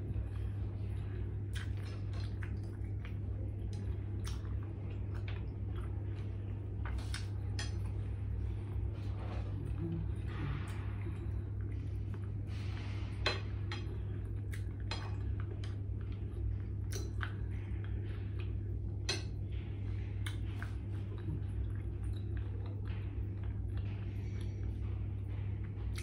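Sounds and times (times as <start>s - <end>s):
chewing: 0.0s - 26.0s
steady low hum: 0.0s - 26.0s.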